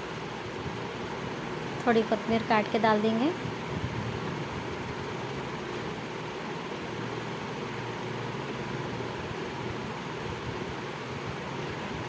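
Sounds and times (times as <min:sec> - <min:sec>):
curry boiling with steady hiss: 0:00.0 - 0:12.0.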